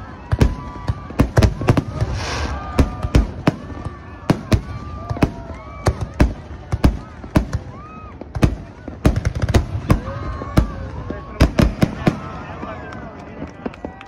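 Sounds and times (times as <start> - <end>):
fireworks bursting: 0.0 - 14.0.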